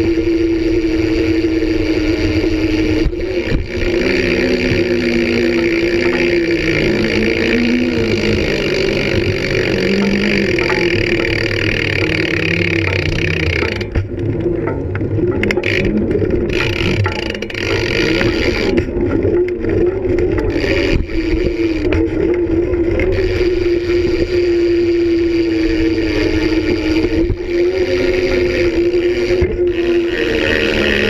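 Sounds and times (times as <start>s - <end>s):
bike rolling over concrete: 0.0s - 31.0s
wind buffeting microphone: 1.4s - 31.0s.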